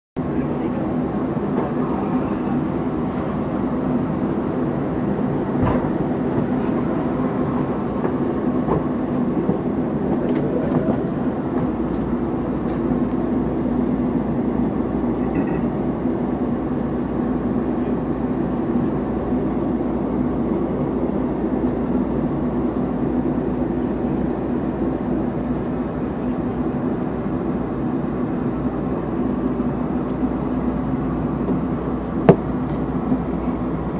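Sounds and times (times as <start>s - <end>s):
train rumbling: 0.2s - 33.9s.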